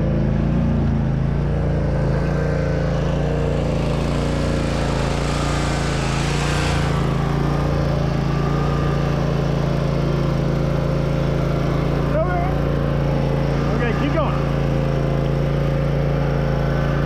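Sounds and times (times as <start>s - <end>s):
riding lawn mower engine running: 0.0s - 17.0s.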